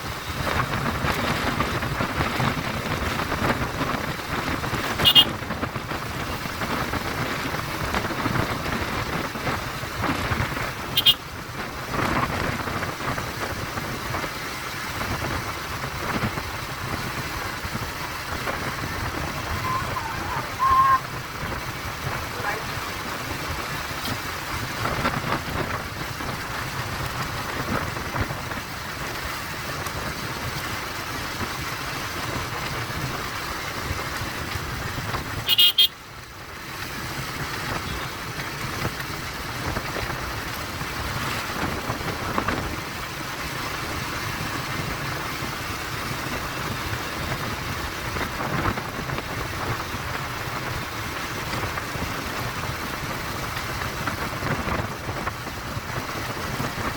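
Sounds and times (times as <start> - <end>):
motorcycle engine: 0.0 - 56.9
wind and road noise: 0.0 - 56.9.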